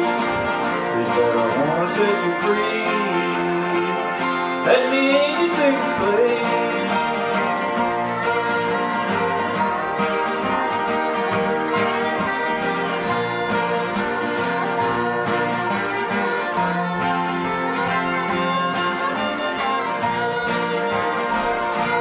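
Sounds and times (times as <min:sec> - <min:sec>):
acoustic guitars strumming: 0:00.0 - 0:22.0
sliding lead melody: 0:00.0 - 0:22.0.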